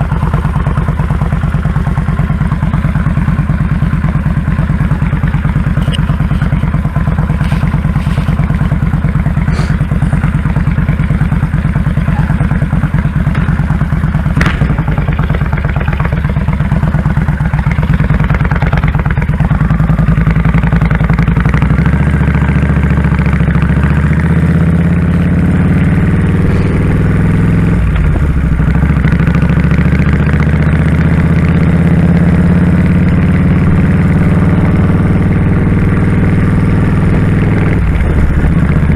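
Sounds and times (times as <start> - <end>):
motorcycle engine pulsing: 0.0 - 38.9.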